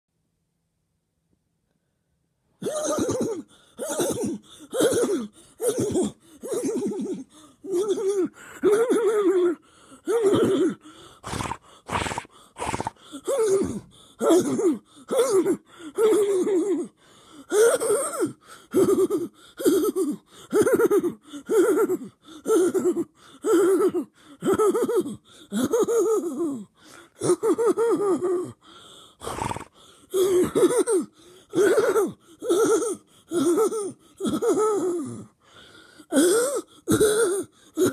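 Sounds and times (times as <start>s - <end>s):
person making strained wordless noises: 2.6s - 28.6s, 29.2s - 35.4s.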